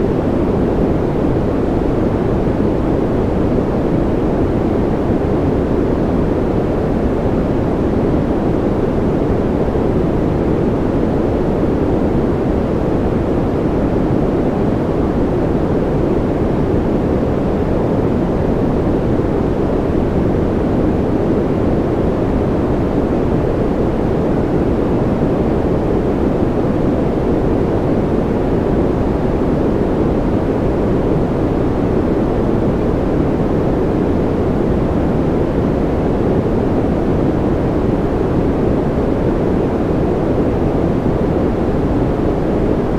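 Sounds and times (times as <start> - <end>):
deep white noise: 0.0 - 42.9.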